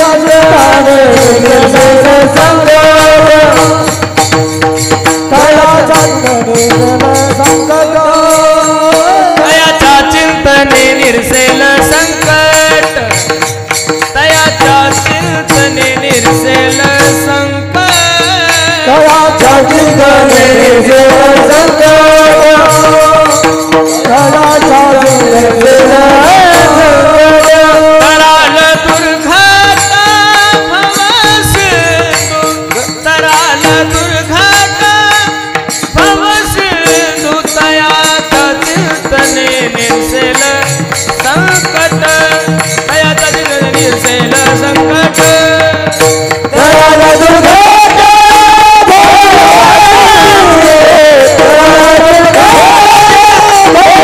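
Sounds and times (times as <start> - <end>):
drum: 0.0 - 54.0
man singing devotional melody: 0.0 - 54.0.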